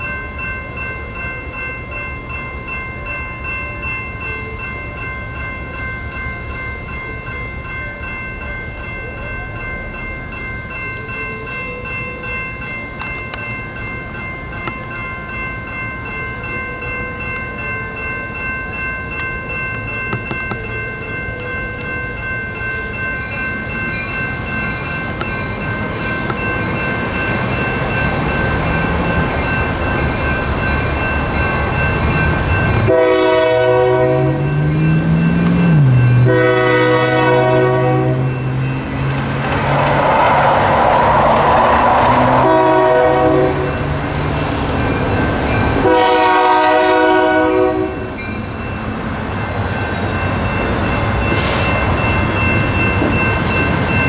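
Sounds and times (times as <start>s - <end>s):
railroad crossing bells ringing: 0.0s - 54.0s.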